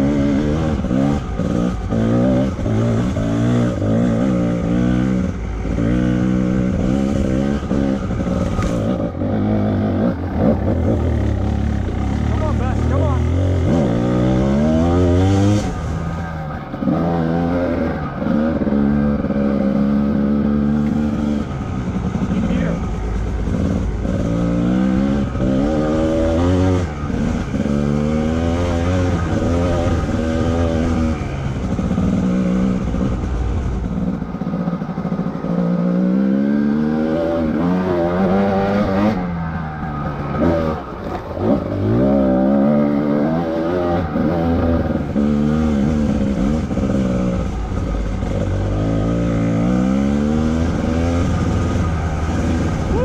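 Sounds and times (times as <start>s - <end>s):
dirt bike engine revving: 0.0s - 33.8s, 34.9s - 53.0s.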